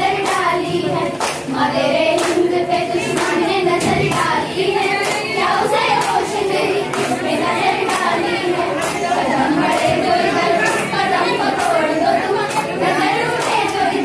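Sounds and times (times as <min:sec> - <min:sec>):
girls singing together: 0:00.0 - 0:14.0
hands clapping in time: 0:00.1 - 0:05.4, 0:06.0 - 0:13.9.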